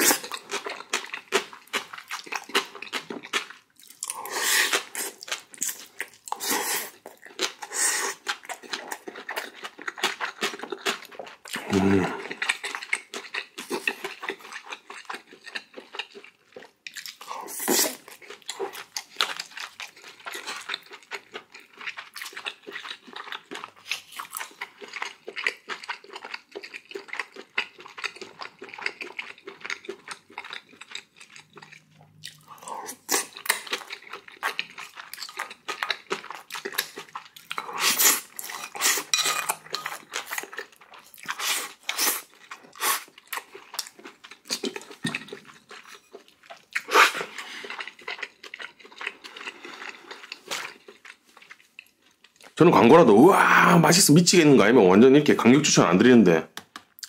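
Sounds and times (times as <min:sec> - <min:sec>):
wet chewing and smacking: 0:00.0 - 0:53.0.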